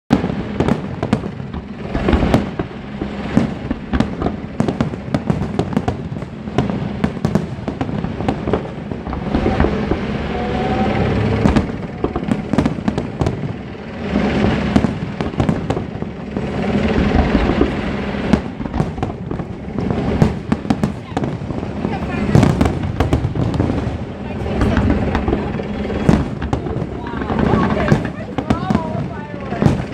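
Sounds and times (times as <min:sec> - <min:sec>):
fireworks bangs and bursts: 0:00.1 - 0:29.9.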